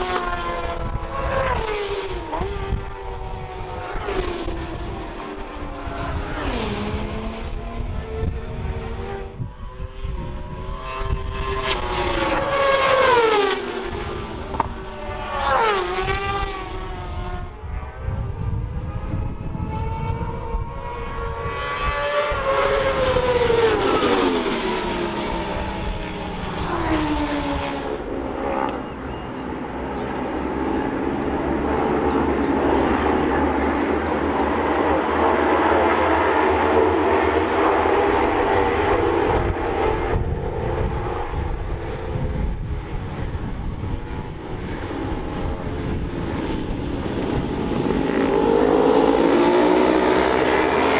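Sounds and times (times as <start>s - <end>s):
racing motorcycles passing: 0.0s - 50.9s.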